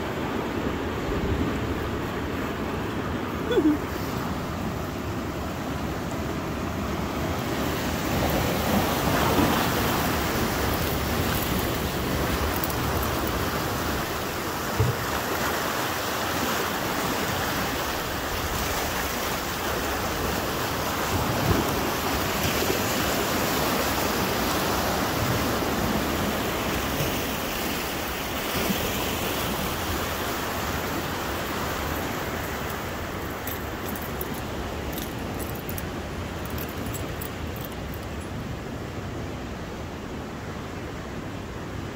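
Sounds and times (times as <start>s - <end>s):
waves washing on rocky shore: 0.0s - 41.9s.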